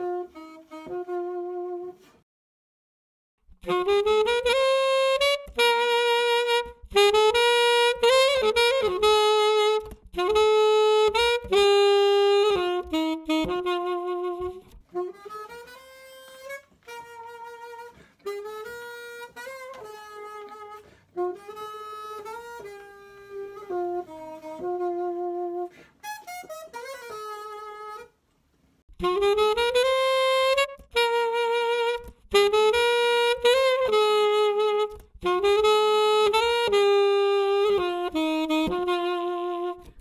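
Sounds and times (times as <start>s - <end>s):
muted alto saxophone melody: 0.0s - 2.2s, 3.5s - 28.2s, 28.8s - 40.0s.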